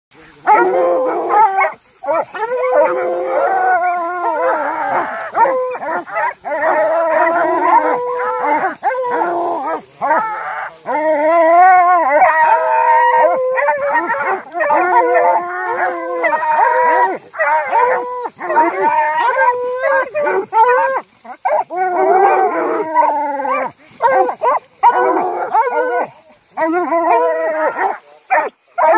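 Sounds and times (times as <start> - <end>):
hounds baying and howling: 0.3 - 28.9.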